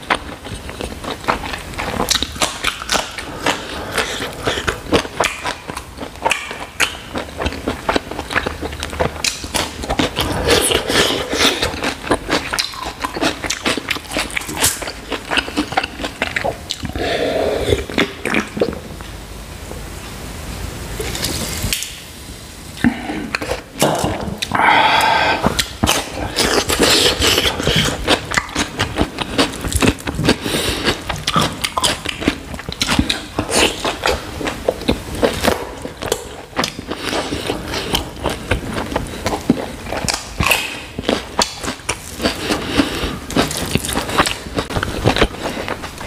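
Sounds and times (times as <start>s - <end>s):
close-miked chewing: 0.0s - 18.8s, 22.8s - 46.0s
mouth smacking and clicks: 0.1s - 18.8s, 22.8s - 46.0s.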